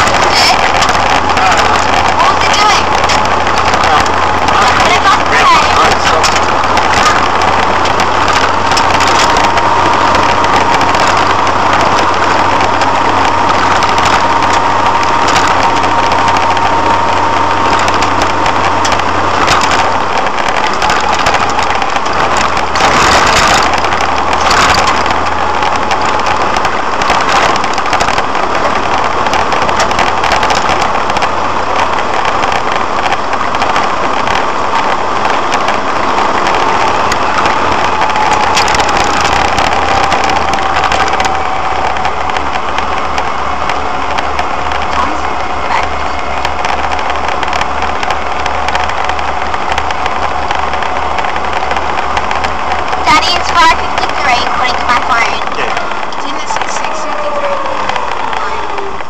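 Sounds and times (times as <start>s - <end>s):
engine hum: 0.0s - 59.0s
knocks and rattles from bumps: 0.0s - 59.0s
tyres on gravel: 0.0s - 59.0s.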